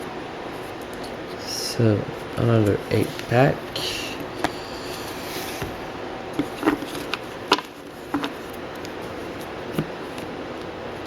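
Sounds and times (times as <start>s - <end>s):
low hiss: 0.0s - 11.0s.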